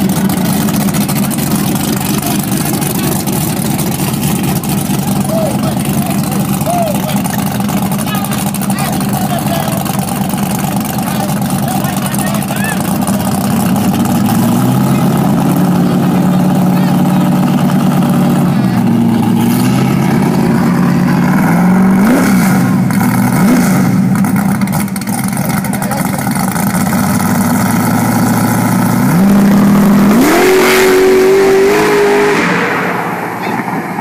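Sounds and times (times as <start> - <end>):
drag car engine revving: 0.0 - 34.0.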